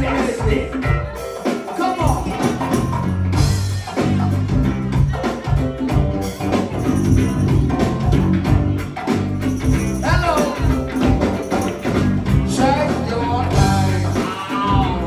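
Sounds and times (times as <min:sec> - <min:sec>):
drum kit and percussion beat: 0:00.0 - 0:15.0
bass line: 0:02.0 - 0:15.0.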